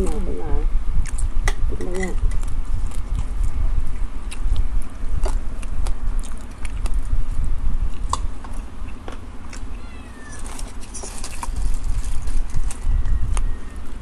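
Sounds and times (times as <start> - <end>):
chewing: 1.0 - 9.7, 10.4 - 13.5.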